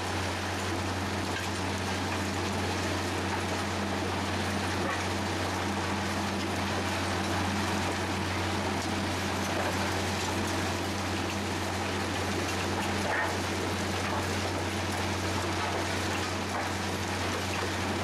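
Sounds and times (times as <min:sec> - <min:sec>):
low engine drone: 0:00.0 - 0:18.0.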